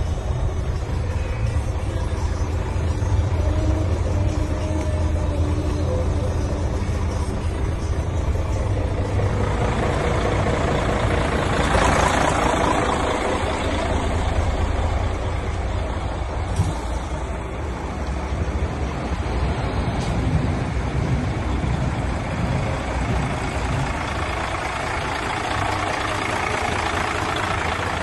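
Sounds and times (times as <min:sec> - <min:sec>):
broad rush of noise: 0:00.0 - 0:28.0
diesel truck engine idling: 0:00.0 - 0:28.0.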